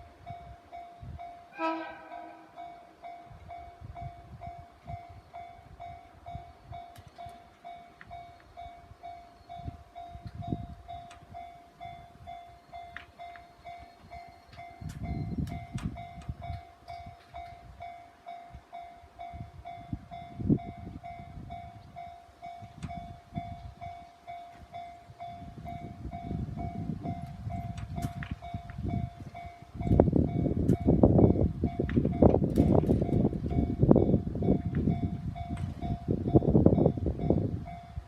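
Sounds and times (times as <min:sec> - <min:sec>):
train rumbling clatter: 0:00.0 - 0:38.0.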